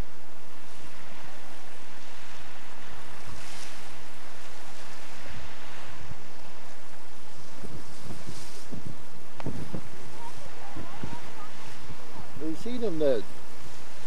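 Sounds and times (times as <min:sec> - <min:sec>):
steady low hum: 0:00.0 - 0:14.0
waves splashing: 0:00.0 - 0:14.0
wind buffeting microphone: 0:00.0 - 0:14.0.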